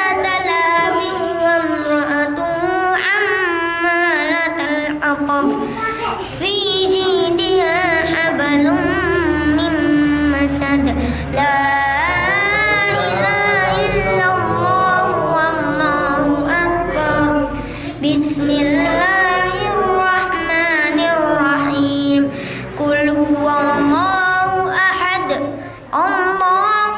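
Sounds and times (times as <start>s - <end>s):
boy chanting recitation: 0.0s - 26.9s.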